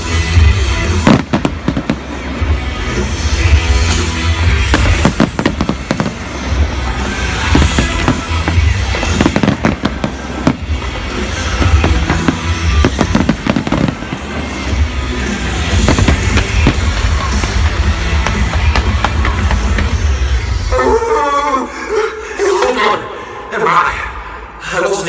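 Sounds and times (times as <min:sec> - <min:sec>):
fireworks bursting and crackling: 0:00.0 - 0:20.7
loud music with heavy bass: 0:00.0 - 0:20.7.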